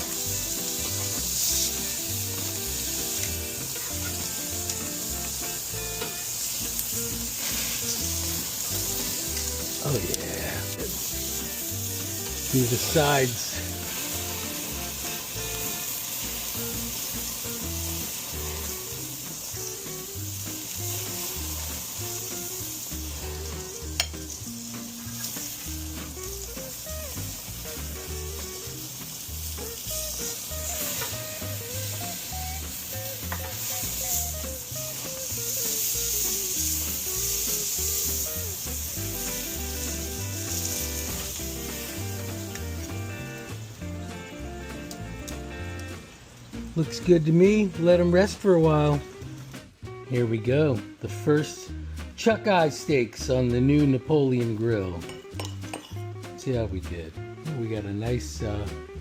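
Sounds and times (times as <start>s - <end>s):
steaks sizzling on a grill: 0.0s - 53.9s.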